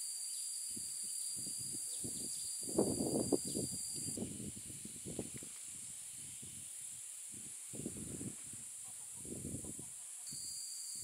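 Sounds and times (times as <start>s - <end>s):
high-pitched insect chorus: 0.0s - 11.0s
thin steady whine: 0.0s - 11.0s.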